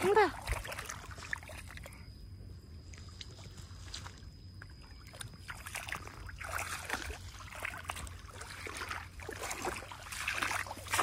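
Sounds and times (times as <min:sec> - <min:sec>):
shallow water sloshing and splashing: 0:00.0 - 0:02.1, 0:02.8 - 0:11.0.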